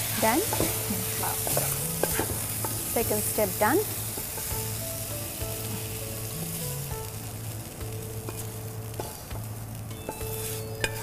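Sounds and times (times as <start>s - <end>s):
filling sizzling in frying pan: 0.0s - 11.0s
soft background music: 0.0s - 11.0s.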